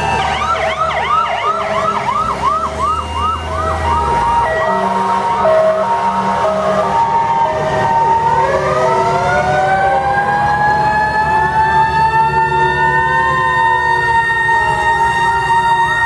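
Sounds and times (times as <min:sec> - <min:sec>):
truck engines running: 0:00.0 - 0:16.0
two-tone siren: 0:00.0 - 0:16.0
wind-up siren wailing: 0:00.0 - 0:16.0.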